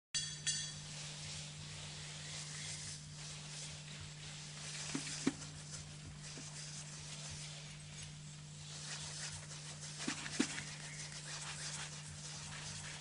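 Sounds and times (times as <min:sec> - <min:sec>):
low steady hum: 0:00.2 - 0:13.0
steady hiss: 0:00.4 - 0:13.0.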